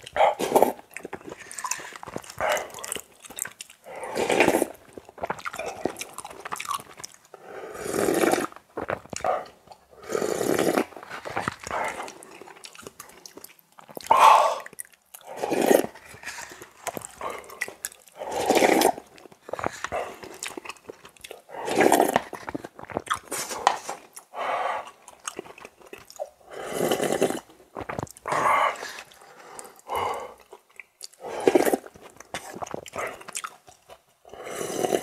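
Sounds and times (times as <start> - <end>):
person slurping noodles: 0.0 - 3.1, 3.8 - 6.8, 7.4 - 12.7, 13.9 - 25.3, 26.1 - 30.6, 31.2 - 33.4, 34.3 - 35.0
person chewing: 0.0 - 35.0.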